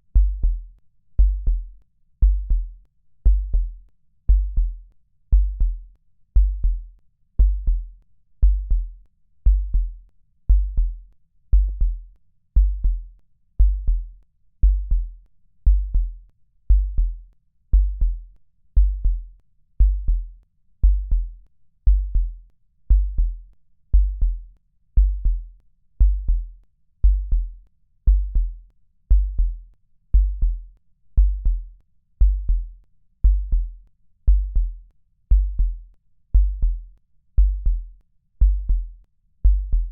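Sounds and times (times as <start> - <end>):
deep electronic drum beat: 0.2 - 0.6, 1.2 - 5.8, 6.4 - 8.9, 9.5 - 12.0, 12.6 - 17.2, 17.8 - 18.2, 18.8 - 39.9.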